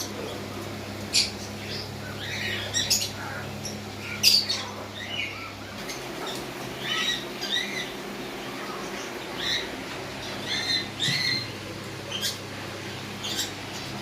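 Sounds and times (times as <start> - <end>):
pigeons chirping and squawking: 0.0 - 14.0.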